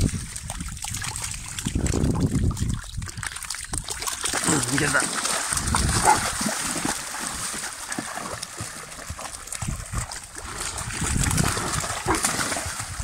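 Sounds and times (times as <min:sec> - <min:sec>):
dogs splashing through water: 0:00.0 - 0:13.0.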